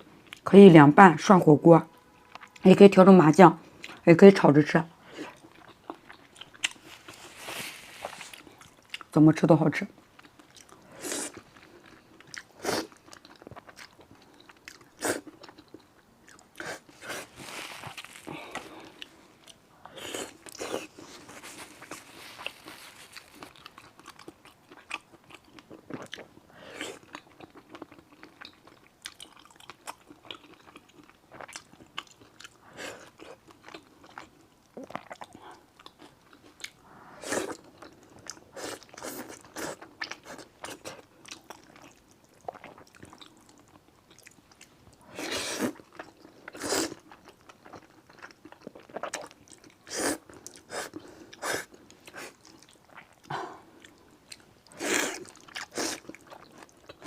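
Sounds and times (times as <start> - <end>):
person chewing noodles: 5.0 - 9.1, 10.0 - 57.0.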